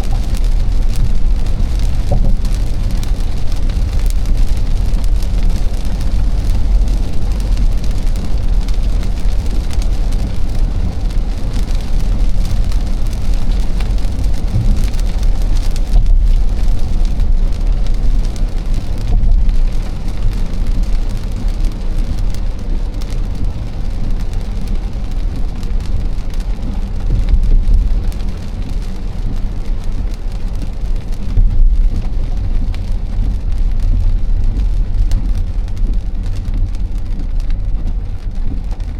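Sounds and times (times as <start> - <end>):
car road rumble: 0.0 - 38.9
rain on car: 0.0 - 38.9
tyres on wet pavement: 0.0 - 38.9.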